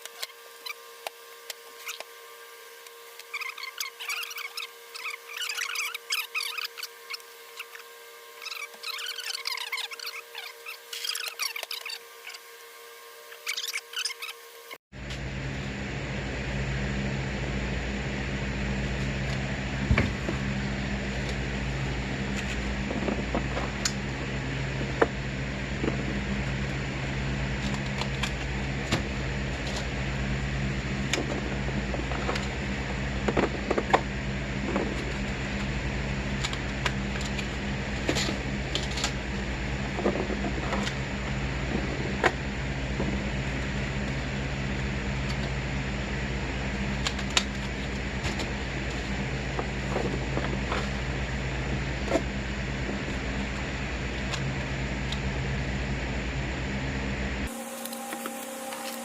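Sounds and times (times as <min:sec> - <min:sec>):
motor humming: 0:00.0 - 0:55.5, 0:57.4 - 0:59.0.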